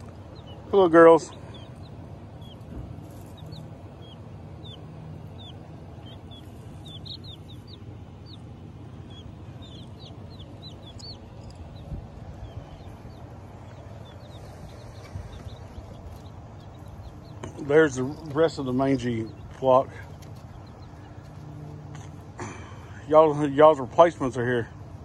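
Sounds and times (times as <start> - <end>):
baby chicks peeping: 0.0 - 25.0.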